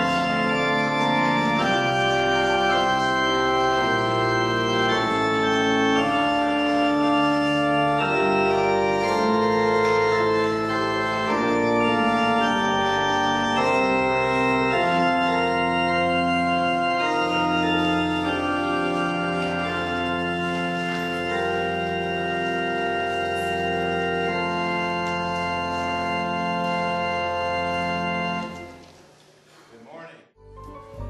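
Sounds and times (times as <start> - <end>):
pipe organ playing held chords: 0.0 - 28.9, 30.4 - 31.0.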